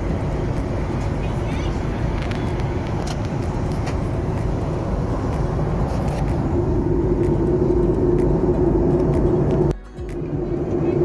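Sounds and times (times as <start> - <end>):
jet engine rumble in cabin: 0.0 - 11.0
low hum: 2.1 - 11.0.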